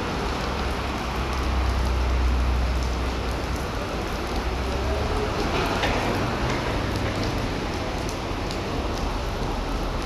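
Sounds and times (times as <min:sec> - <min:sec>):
rain falling on paving: 0:00.0 - 0:10.0.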